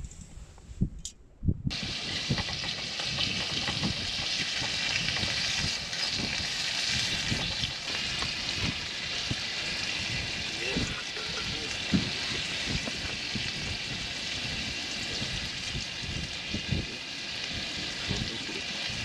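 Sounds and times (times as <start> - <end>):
meat sizzling on a griddle: 1.7 - 19.0.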